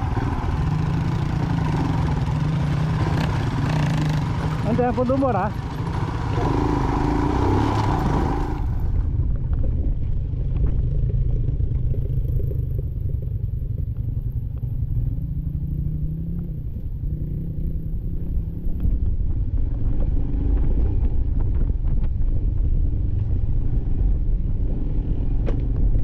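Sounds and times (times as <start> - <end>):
motorcycle engine running: 0.0 - 26.0
second motorcycle alongside: 0.0 - 26.0.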